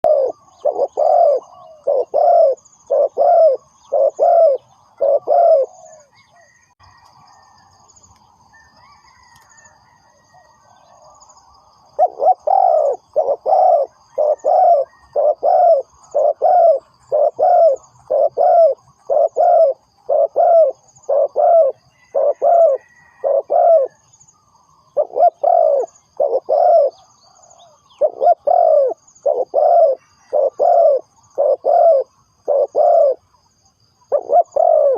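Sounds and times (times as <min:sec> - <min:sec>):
dove cooing: 0:00.0 - 0:06.7, 0:12.0 - 0:24.1, 0:24.8 - 0:33.4, 0:34.0 - 0:34.9
small birds chirping: 0:00.0 - 0:09.6, 0:10.9 - 0:34.9.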